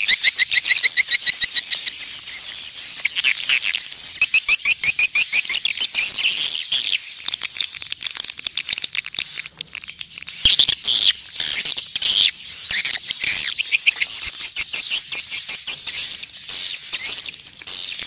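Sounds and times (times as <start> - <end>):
swiftlets twittering: 0.0 - 18.0.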